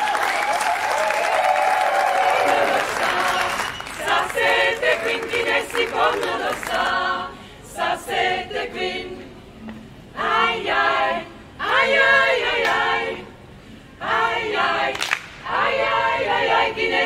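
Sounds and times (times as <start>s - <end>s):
women's choir singing: 1.7s - 9.5s, 10.1s - 17.0s.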